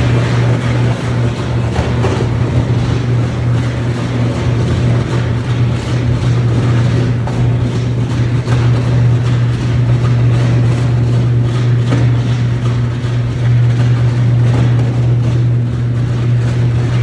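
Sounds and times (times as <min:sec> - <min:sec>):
electric arc furnace humming: 0:00.0 - 0:17.0.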